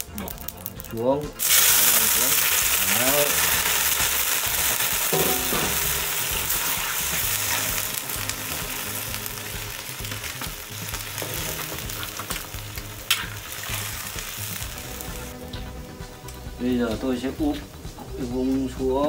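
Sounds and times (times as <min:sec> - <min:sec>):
meat sizzling in hot fat: 0:00.0 - 0:15.4.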